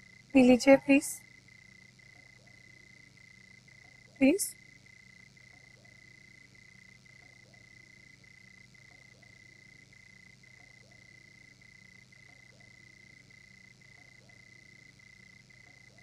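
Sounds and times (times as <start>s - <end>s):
frogs trilling: 0.0s - 16.0s.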